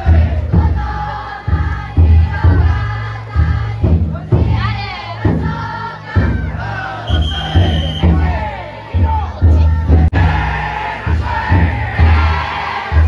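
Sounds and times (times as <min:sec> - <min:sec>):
big taiko drum beating: 0:00.0 - 0:13.0
crowd chanting: 0:00.0 - 0:13.0.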